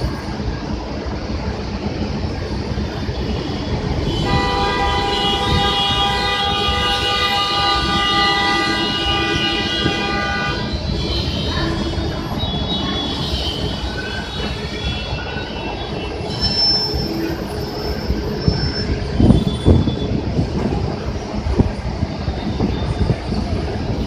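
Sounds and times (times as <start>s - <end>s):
heavy vehicle rumble: 0.0s - 24.0s.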